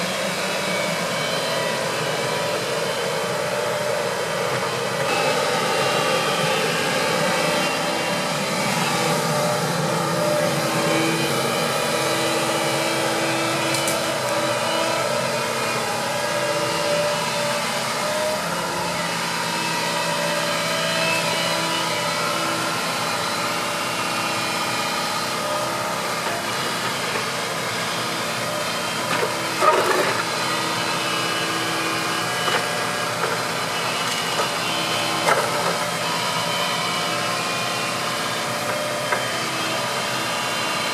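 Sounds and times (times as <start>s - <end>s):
excavator diesel engine and hydraulics: 0.0s - 40.9s.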